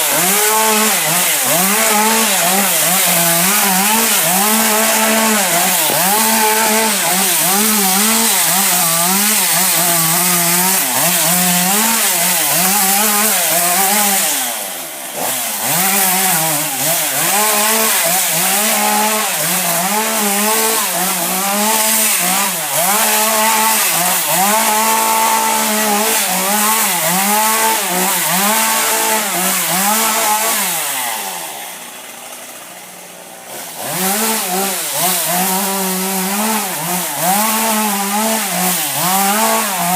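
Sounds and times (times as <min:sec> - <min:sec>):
chainsaw cutting at high revs: 0:00.0 - 0:39.9.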